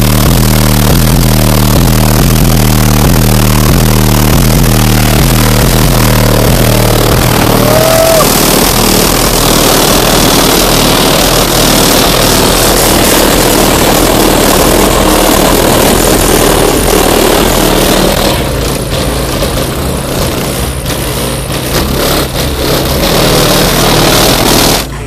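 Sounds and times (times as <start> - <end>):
distorted subwoofer bass rumble: 0.0 - 25.0.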